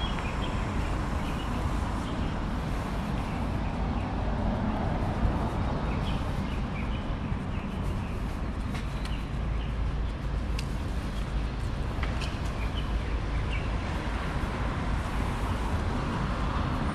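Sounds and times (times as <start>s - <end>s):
low traffic rumble: 0.0s - 16.9s.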